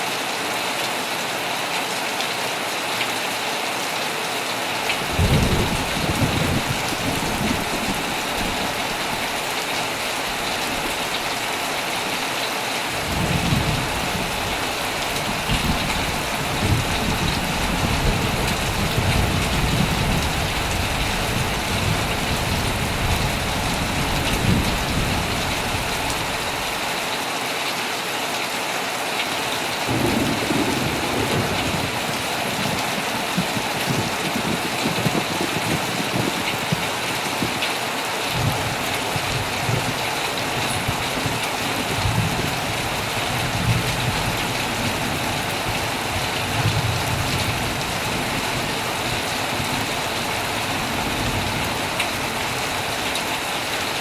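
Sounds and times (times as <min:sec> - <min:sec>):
heavy rain on a tent: 0:00.0 - 0:54.0
thunder rumbling: 0:05.0 - 0:12.2, 0:12.9 - 0:26.8, 0:29.7 - 0:37.7, 0:38.3 - 0:54.0.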